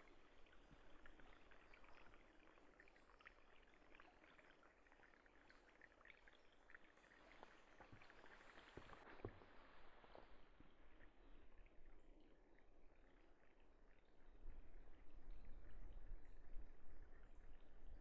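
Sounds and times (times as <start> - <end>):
small stream trickling: 0.0 - 18.0.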